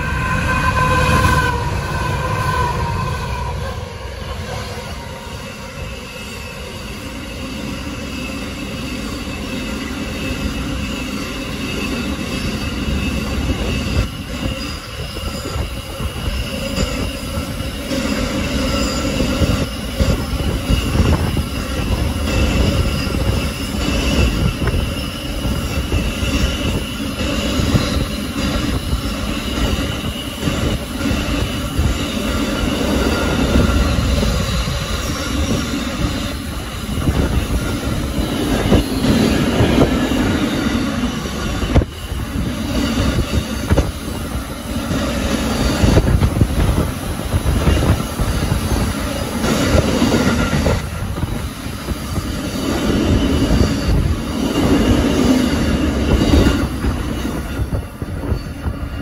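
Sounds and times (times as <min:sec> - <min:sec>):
high-pitched wheel squeal: 0:00.0 - 0:59.0
train wheels rumbling on rail: 0:00.0 - 0:59.0.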